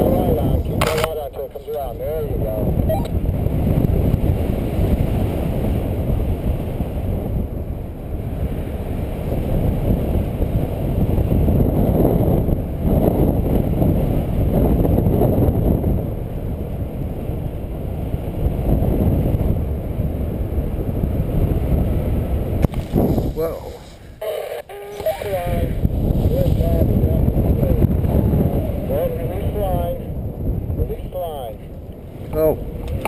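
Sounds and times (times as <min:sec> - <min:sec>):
wind buffeting microphone: 0:00.0 - 0:24.3, 0:24.9 - 0:33.0.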